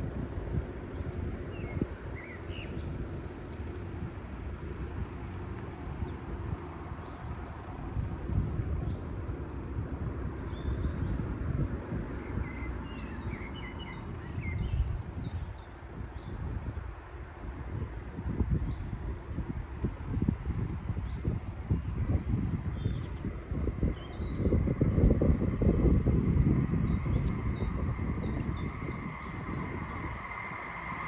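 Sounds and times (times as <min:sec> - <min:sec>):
wind rumbling on microphone: 0:00.0 - 0:31.0
small birds singing: 0:00.3 - 0:31.0.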